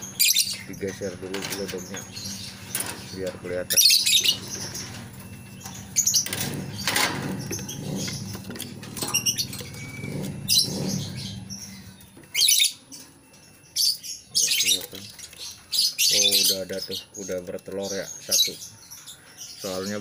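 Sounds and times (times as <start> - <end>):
birds fluttering in a cage: 0.0 - 20.0
lovebirds chirping shrilly: 0.0 - 20.0.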